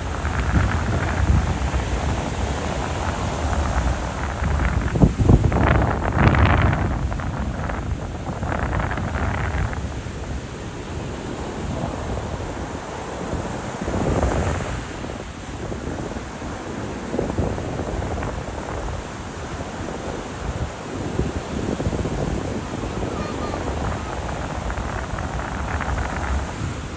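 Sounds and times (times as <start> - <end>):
ocean surf washing: 0.0 - 26.9
wind on microphone: 0.0 - 26.9.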